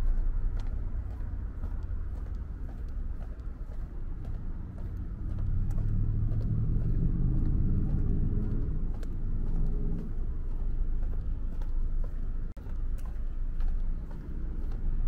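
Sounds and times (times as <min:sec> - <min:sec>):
vehicle engine passing by: 0:00.0 - 0:12.5, 0:13.5 - 0:15.0
street traffic rumbling: 0:00.0 - 0:15.0.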